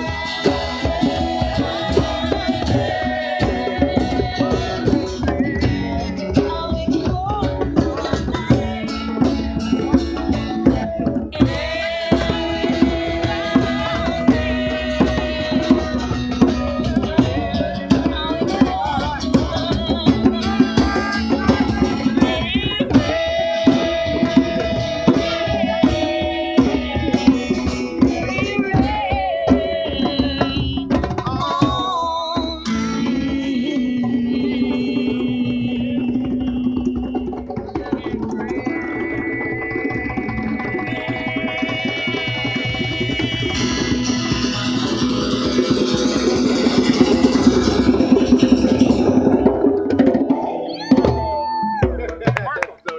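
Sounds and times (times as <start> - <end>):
acoustic guitar: 0.0 - 52.3
hand drums playing rhythm: 0.0 - 52.9.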